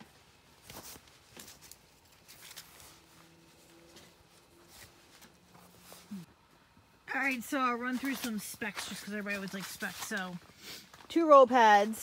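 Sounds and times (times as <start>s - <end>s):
hands rustling string lights: 0.0s - 6.3s, 7.1s - 11.2s
faint low hum: 0.0s - 12.0s.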